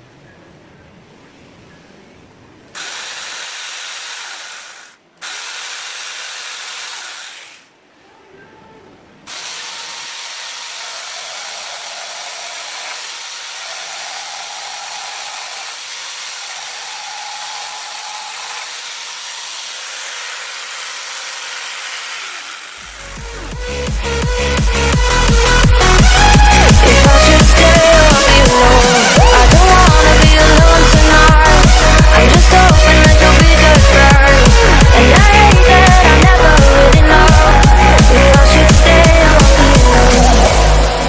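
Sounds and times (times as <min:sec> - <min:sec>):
angle grinder chainsaw whining: 0:02.8 - 0:07.7, 0:09.3 - 0:41.0.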